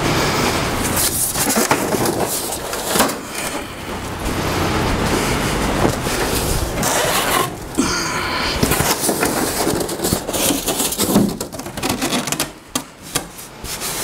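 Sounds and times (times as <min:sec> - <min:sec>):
plastic and foam rustling: 0:00.0 - 0:14.0.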